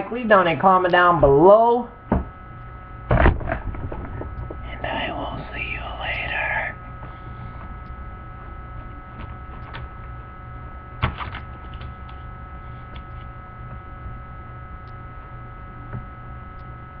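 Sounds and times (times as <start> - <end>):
electrical hum with high whine: 0.0 - 17.0.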